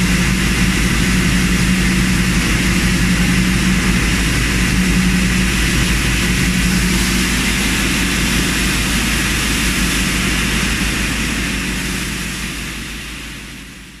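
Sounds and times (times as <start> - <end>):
machine droning: 0.0 - 14.0.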